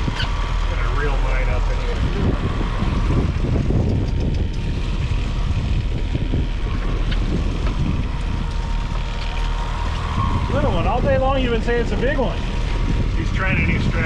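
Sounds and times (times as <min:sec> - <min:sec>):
outboard motor rumbling: 0:00.0 - 0:14.0
wind buffeting microphone: 0:00.0 - 0:14.0.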